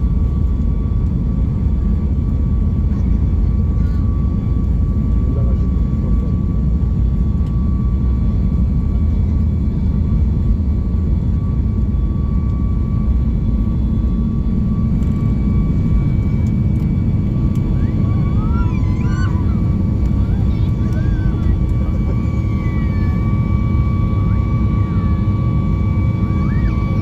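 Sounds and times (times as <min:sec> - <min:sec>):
jet cabin rumble: 0:00.0 - 0:27.0.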